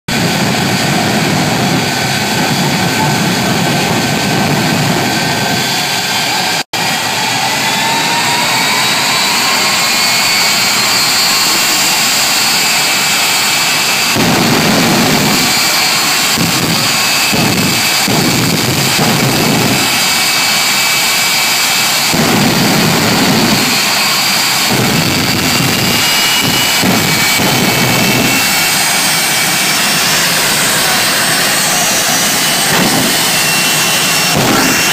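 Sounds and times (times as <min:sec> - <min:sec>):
deep rumble surges: 0:00.1 - 0:34.9
jet engines running: 0:00.1 - 0:34.9
rising high whine: 0:00.1 - 0:34.9.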